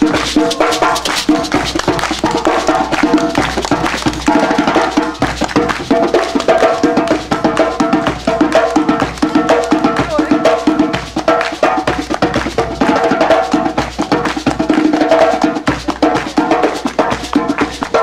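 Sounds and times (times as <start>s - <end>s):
busy hand percussion: 0.0s - 18.0s.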